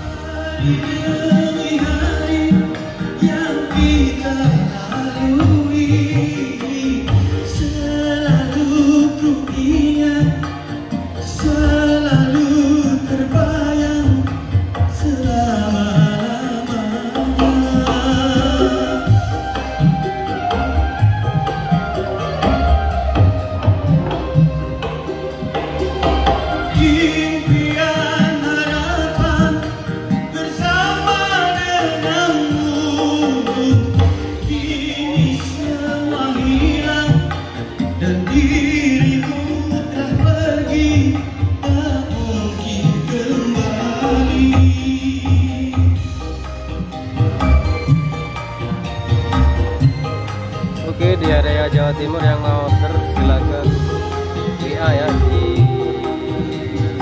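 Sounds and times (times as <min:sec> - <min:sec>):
man singing into microphone: 0:00.0 - 0:48.0, 0:50.8 - 0:57.0
music with drum beat and bass: 0:00.0 - 0:57.0.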